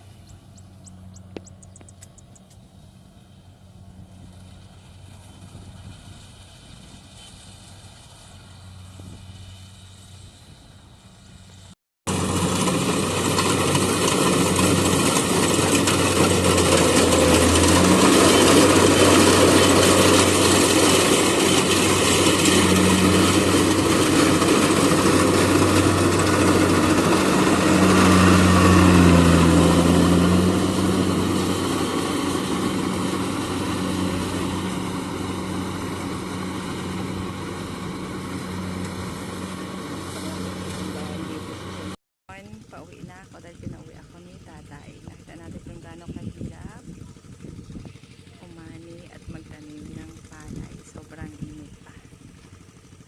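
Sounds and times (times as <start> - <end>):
harvester engine humming: 0.0 - 53.0.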